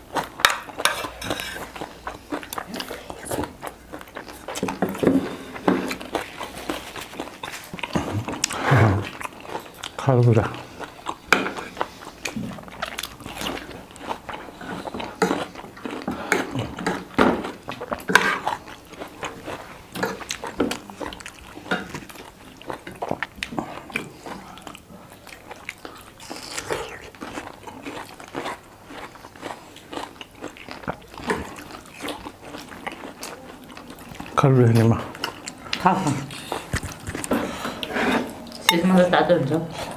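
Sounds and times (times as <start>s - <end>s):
person chewing crunchy food: 0.0s - 38.7s.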